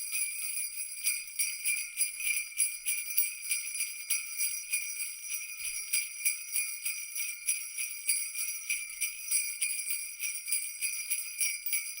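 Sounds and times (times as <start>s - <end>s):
jingle bells shaken: 0.0s - 12.0s.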